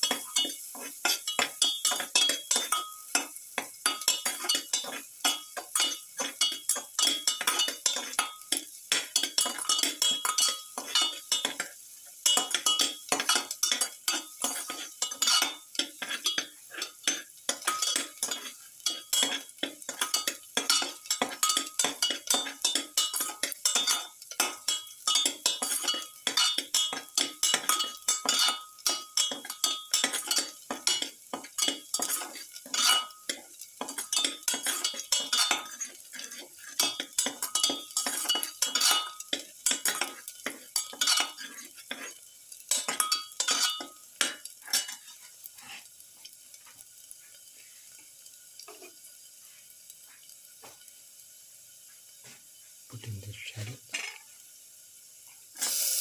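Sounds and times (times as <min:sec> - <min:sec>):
metal spatula scraping a pan: 0:00.0 - 0:47.9, 0:53.9 - 0:54.3
garlic sizzling in oil: 0:00.0 - 0:56.0.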